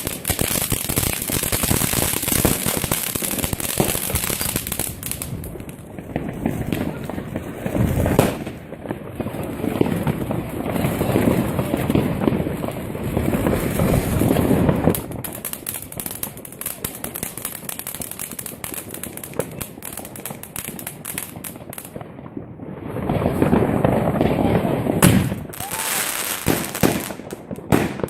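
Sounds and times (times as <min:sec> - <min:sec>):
fireworks bangs: 0:00.0 - 0:28.0
fireworks crackling pops: 0:00.0 - 0:28.0.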